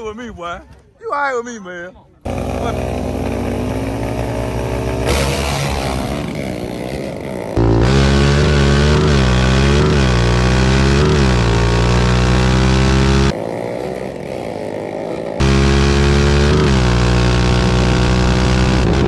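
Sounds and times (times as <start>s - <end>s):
engine revving: 2.3s - 19.0s.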